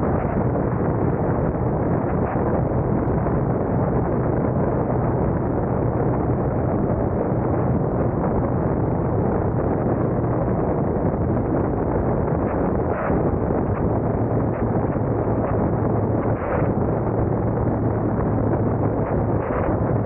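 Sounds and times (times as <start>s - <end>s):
faint low hum: 0.0s - 20.0s
muffled car road and engine noise: 0.0s - 20.0s.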